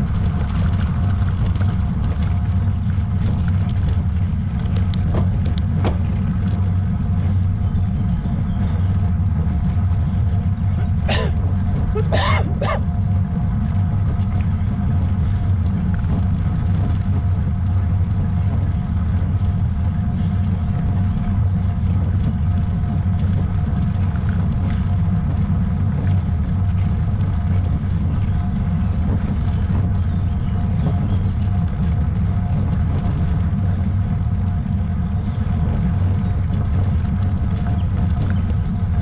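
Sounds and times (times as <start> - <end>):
road noise: 0.0 - 39.0
wind buffeting: 0.0 - 39.0.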